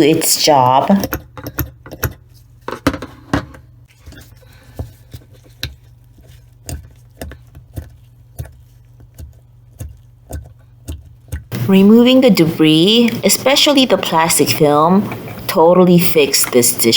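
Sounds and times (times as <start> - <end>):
steady low hum: 2.3 - 16.9.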